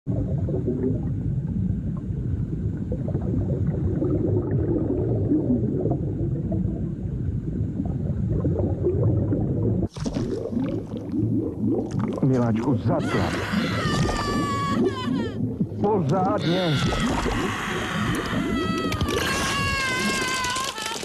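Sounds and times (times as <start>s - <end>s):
muffled underwater rumbling and gurgling: 0.1s - 20.7s.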